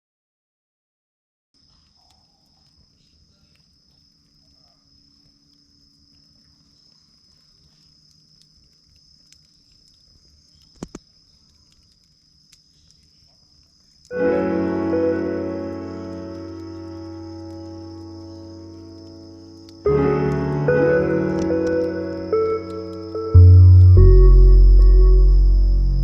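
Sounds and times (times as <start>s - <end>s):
crickets trilling: 1.6s - 26.0s.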